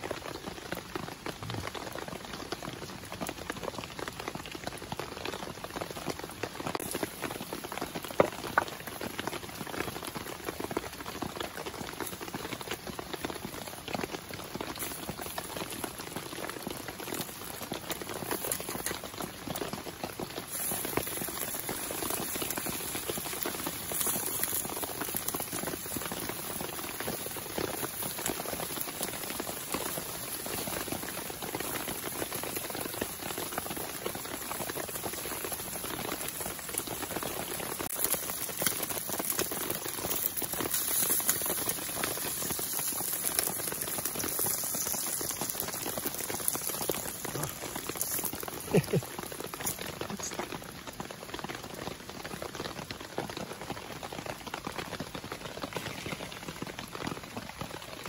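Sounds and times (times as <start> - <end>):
rain pattering: 0.0 - 58.0
bacon sizzling in a frying pan: 4.7 - 58.0.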